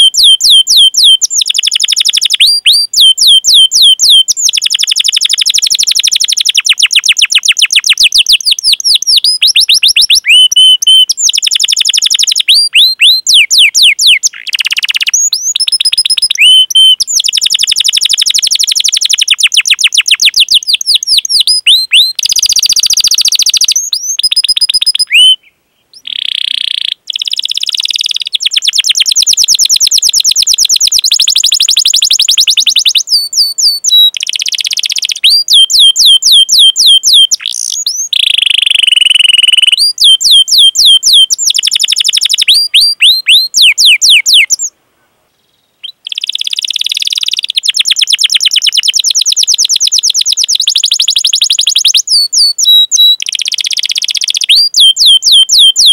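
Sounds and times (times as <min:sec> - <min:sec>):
canary singing: 0:00.0 - 0:44.7, 0:45.8 - 0:55.9.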